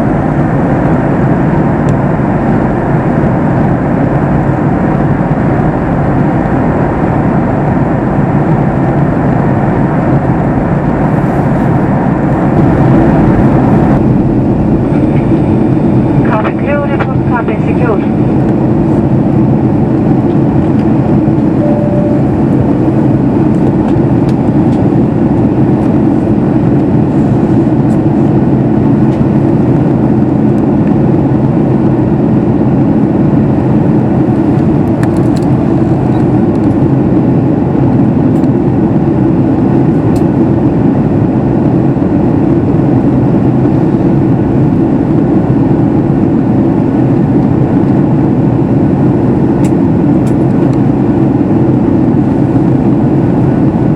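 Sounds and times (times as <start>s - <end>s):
airflow over fuselage: 0.0s - 53.9s
jet engine hum: 0.0s - 53.9s.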